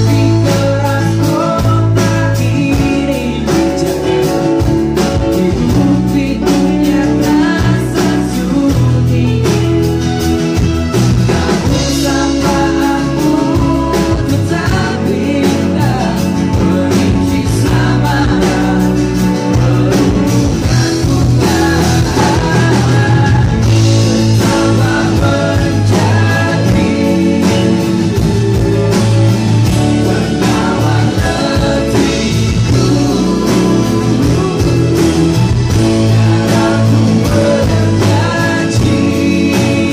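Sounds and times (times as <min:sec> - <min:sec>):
acoustic guitar: 0:00.0 - 0:39.9
bass guitar: 0:00.0 - 0:39.9
drums: 0:00.0 - 0:39.9
electric guitar: 0:00.0 - 0:39.9
man singing: 0:00.0 - 0:39.9.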